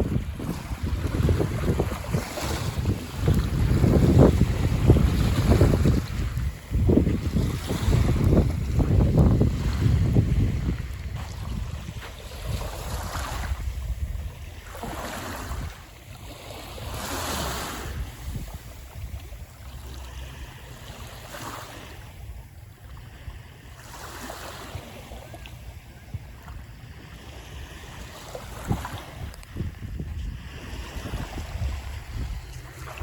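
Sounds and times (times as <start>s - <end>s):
wind buffeting microphone: 0.0s - 23.6s, 25.6s - 33.0s
small waves washing onto beach: 0.0s - 33.0s.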